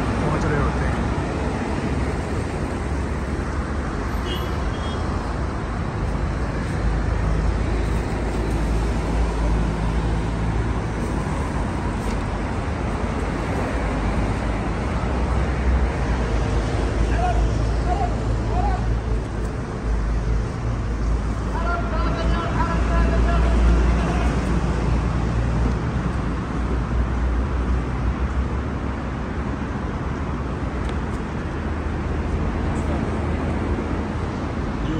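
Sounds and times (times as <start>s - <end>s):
road traffic rumble: 0.0s - 34.9s.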